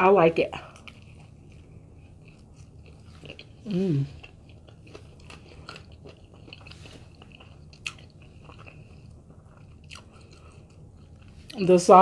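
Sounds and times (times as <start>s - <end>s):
person chewing crunchy food: 0.6s - 11.6s.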